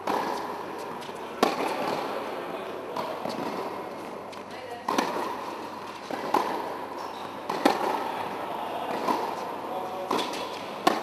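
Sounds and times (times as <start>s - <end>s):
racket striking tennis ball: 0.0s - 11.0s
tennis ball bouncing on hard court: 0.0s - 11.0s.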